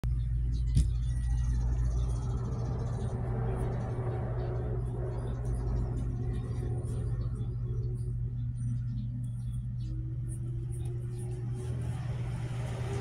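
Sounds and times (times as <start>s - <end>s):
rumbling background noise: 0.0s - 13.0s
steady low hum: 0.0s - 13.0s.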